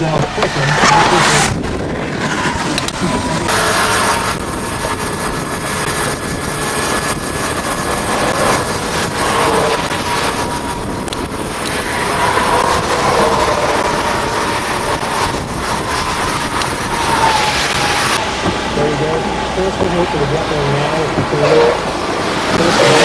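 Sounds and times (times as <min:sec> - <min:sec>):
vehicle road and wind noise: 0:00.0 - 0:23.0.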